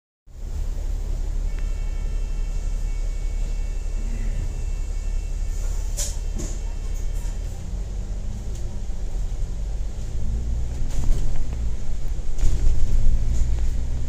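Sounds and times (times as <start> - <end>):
bus engine rumble: 0.3 - 14.0.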